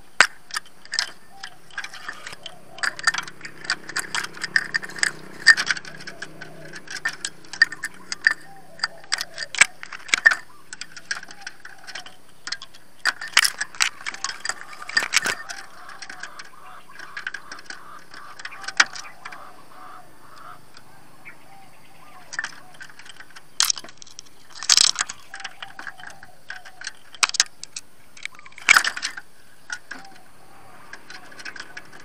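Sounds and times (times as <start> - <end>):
dove tapping on cage and lens: 0.0 - 32.0.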